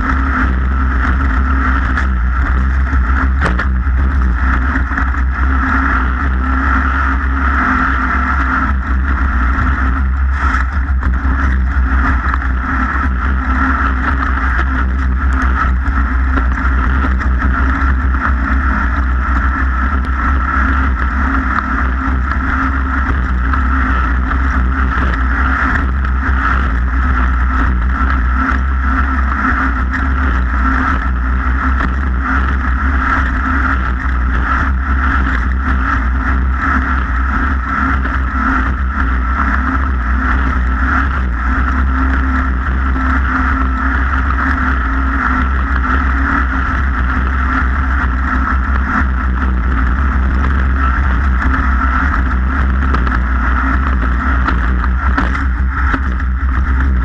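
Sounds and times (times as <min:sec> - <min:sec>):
race car engine droning: 0:00.0 - 0:57.0.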